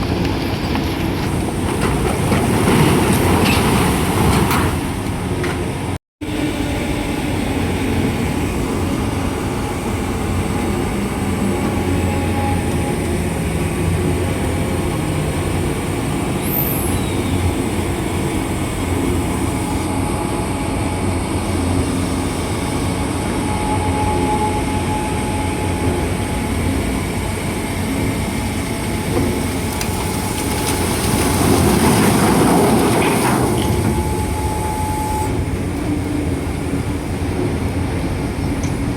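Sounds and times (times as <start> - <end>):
diesel machinery rumbling: 0.0 - 38.9.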